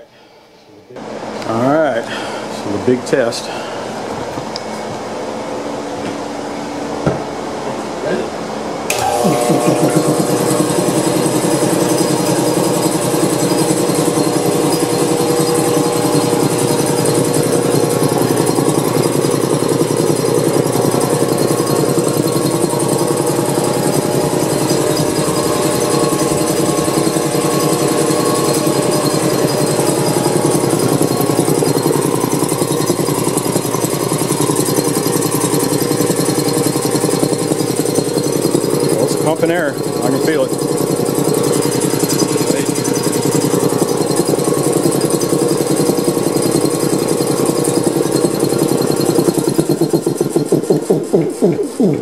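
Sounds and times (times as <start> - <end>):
air compressor running: 1.0 - 52.0.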